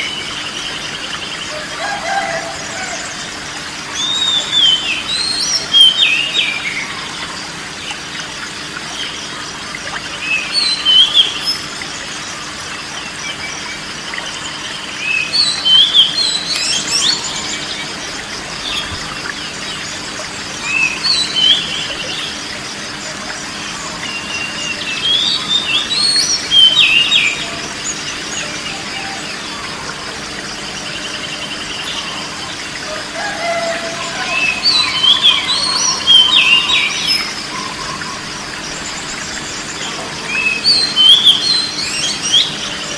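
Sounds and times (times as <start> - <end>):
songbirds chirping and whistling: 0.0 - 42.9
steady background hiss: 0.0 - 42.9.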